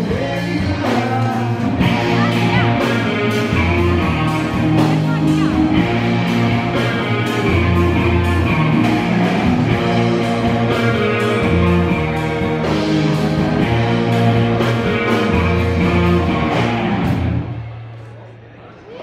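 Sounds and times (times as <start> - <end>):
electric guitars: 0.0 - 17.9
live rock band playing: 0.0 - 17.9.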